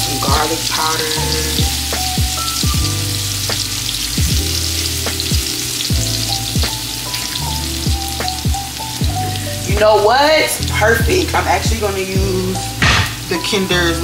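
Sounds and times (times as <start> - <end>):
background music with bass: 0.0 - 14.0
food sizzling in oil: 0.0 - 14.0.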